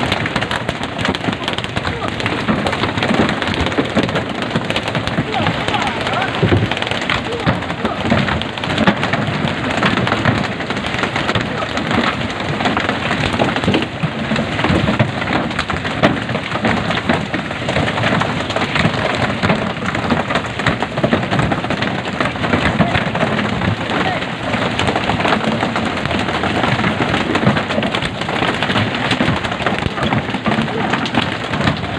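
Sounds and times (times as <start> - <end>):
fish slapping on wooden deck: 0.0 - 31.9.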